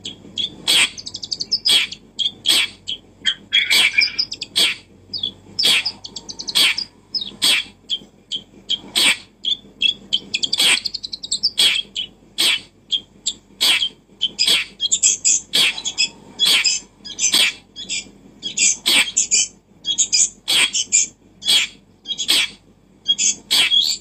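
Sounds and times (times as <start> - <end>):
bird chirping and twittering: 0.0 - 24.0.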